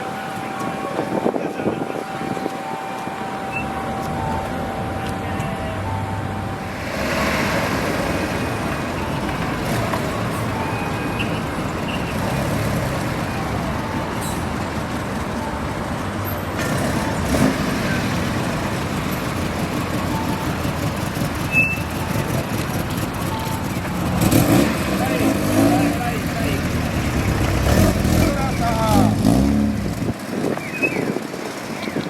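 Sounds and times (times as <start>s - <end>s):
car engines running: 0.0s - 32.0s.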